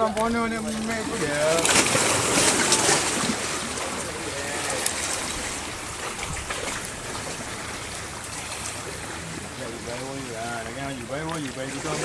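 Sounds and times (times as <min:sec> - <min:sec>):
sea water splashing on rocks: 0:00.0 - 0:12.0.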